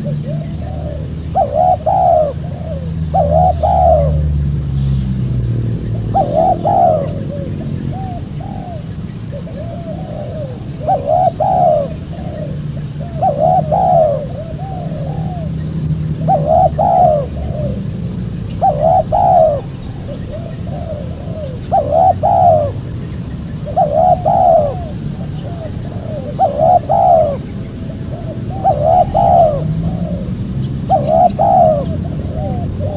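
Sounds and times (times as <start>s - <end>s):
dove cooing: 0.0s - 32.9s
steady low hum: 0.0s - 32.9s.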